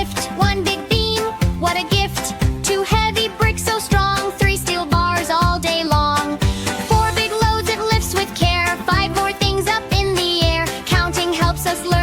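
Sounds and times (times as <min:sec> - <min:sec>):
children's song music: 0:00.0 - 0:12.0.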